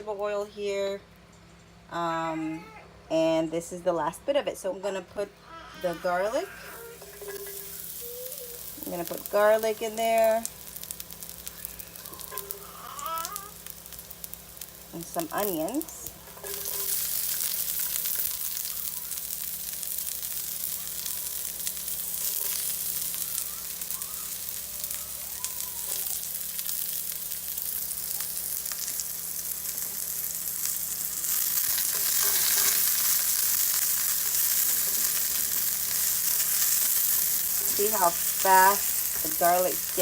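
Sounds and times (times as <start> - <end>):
garlic and onions sizzling in oil: 5.8 - 40.0.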